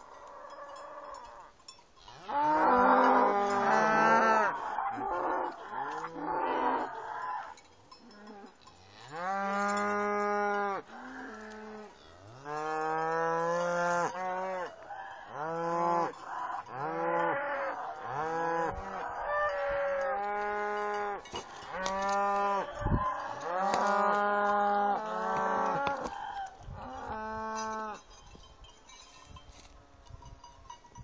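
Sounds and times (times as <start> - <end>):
cattle mooing: 2.0 - 7.5, 8.2 - 28.0.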